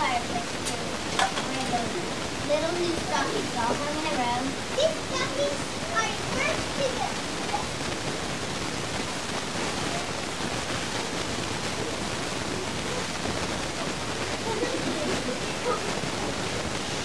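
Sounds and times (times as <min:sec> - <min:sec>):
faint voices murmuring: 0:00.0 - 0:17.0
recording hiss: 0:00.0 - 0:17.0.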